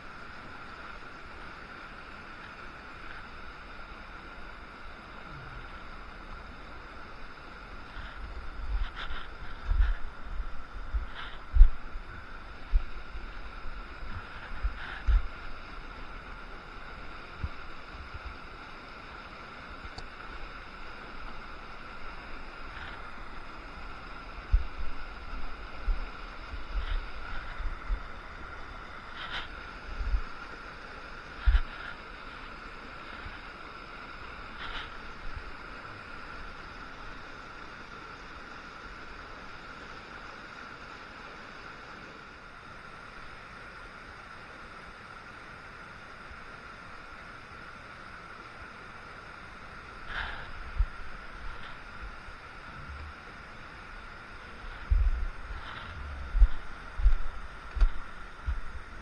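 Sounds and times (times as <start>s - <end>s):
creek water rushing over rocks: 0.0s - 59.0s.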